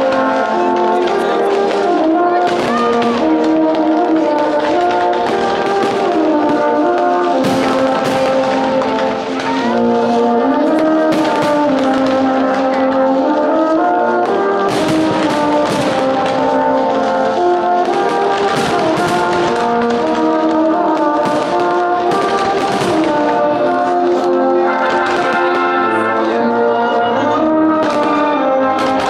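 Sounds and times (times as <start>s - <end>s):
fireworks bangs and crackling: 0.0s - 29.0s
orchestral music with brass: 0.0s - 29.0s.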